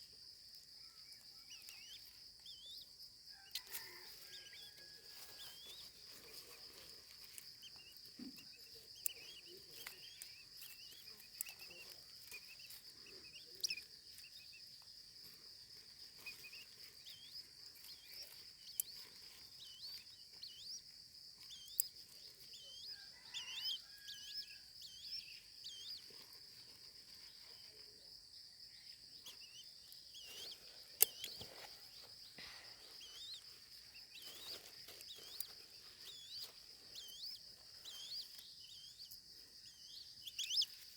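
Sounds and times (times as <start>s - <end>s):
faint bird chirps: 0.0s - 40.9s.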